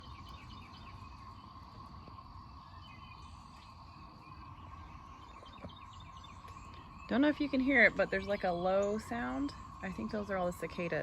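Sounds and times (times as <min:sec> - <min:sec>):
birds chirping: 0:00.0 - 0:11.0
distant cicadas droning: 0:00.0 - 0:11.0.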